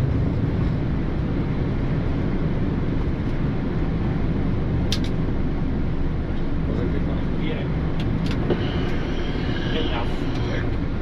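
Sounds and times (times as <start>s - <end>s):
aircraft cockpit engine and air rush: 0.0s - 11.0s.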